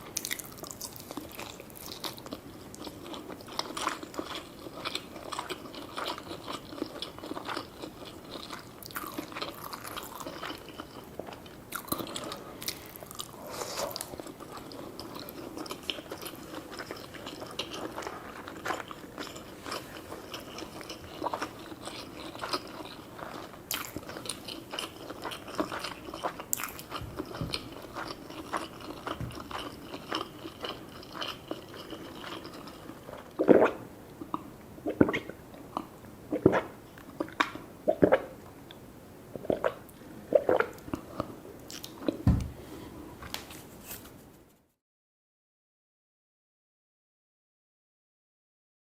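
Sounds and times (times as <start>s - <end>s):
person chewing food: 0.0s - 42.6s.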